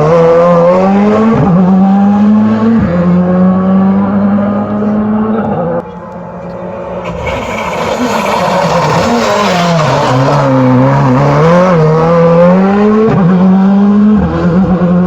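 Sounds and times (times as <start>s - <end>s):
rally car engine: 0.0s - 15.0s.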